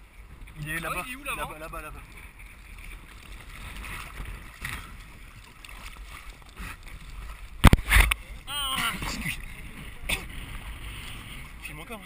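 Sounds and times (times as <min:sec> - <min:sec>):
water rushing and splashing: 0:00.0 - 0:12.0
wind rumbling on microphone: 0:00.0 - 0:12.0.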